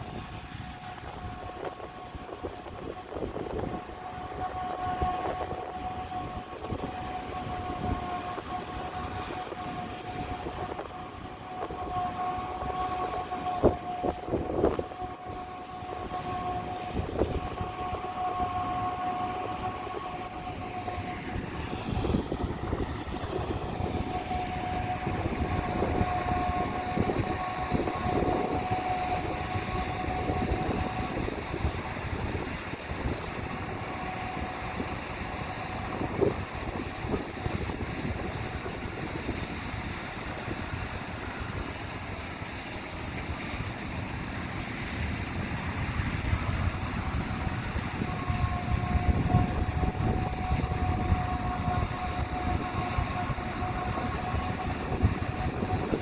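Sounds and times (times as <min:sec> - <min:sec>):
diesel machinery rumble: 0:00.0 - 0:56.0
high machine whine: 0:00.0 - 0:56.0.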